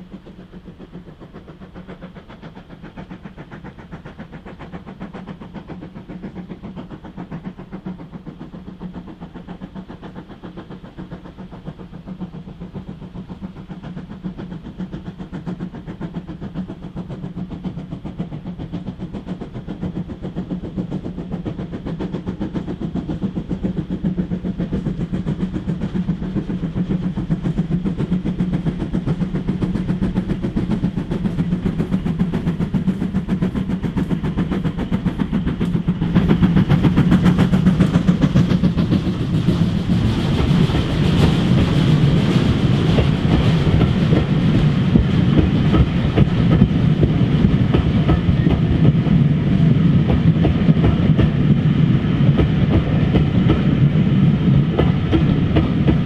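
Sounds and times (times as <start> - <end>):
steam train running: 0.0 - 56.0.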